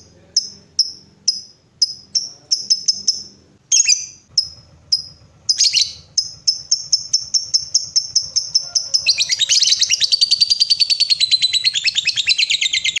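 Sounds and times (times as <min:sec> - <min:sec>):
lovebird chirping and trilling: 0:00.0 - 0:13.0.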